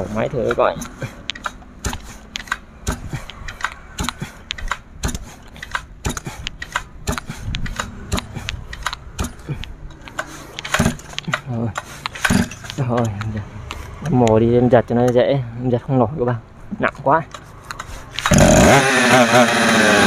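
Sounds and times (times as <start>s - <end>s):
recoil starter clicks and knocks: 0.4s - 14.3s, 17.3s - 20.0s.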